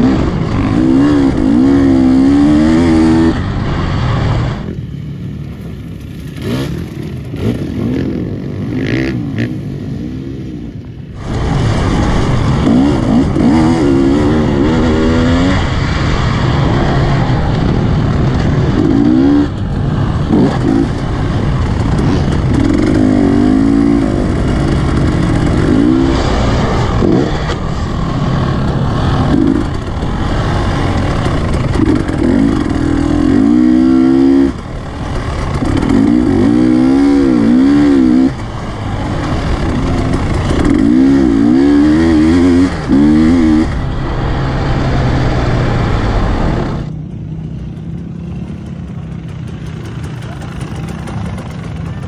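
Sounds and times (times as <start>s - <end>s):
dirt bike engine revving: 0.0s - 4.8s, 6.1s - 52.0s.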